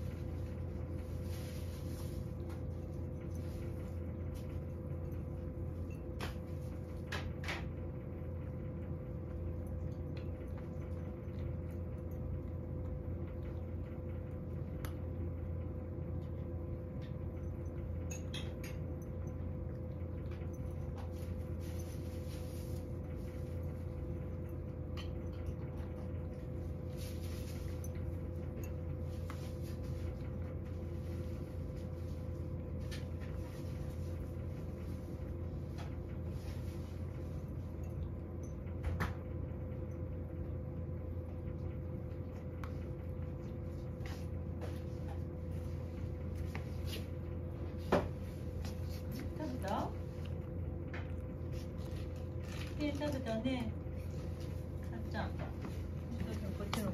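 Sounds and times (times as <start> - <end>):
cat crunching dry kibble: 0.0 - 55.0
steady low hum: 0.0 - 56.9.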